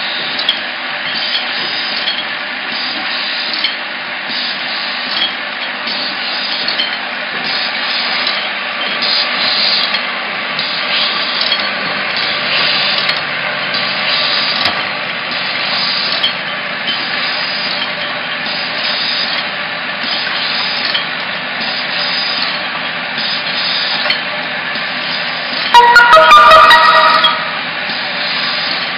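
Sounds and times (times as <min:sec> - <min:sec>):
bottling machine hum and rattle: 0:00.0 - 0:28.9.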